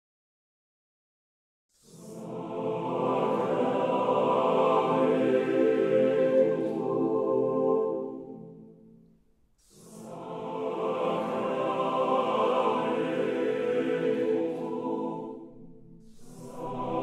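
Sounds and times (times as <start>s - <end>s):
choir singing chords: 1.8s - 17.0s.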